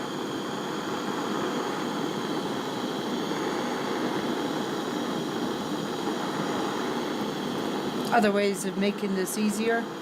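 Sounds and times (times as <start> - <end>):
gas torch hissing: 0.0 - 10.0.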